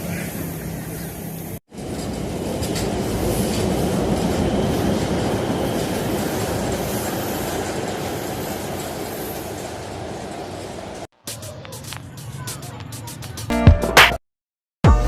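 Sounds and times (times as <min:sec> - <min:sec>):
electric train rumbling on rails: 0:00.0 - 0:13.2.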